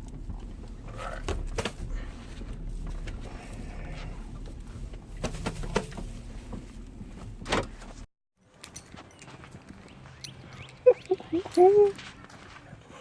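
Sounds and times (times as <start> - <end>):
car rumbling: 0.0 - 13.0.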